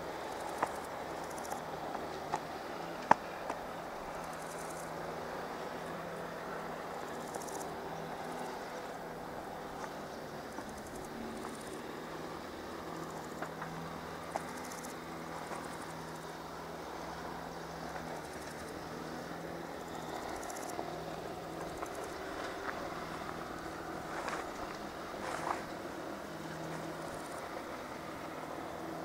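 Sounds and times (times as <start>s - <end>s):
low engine hum: 0.0s - 29.0s
insects chirping: 0.1s - 29.0s.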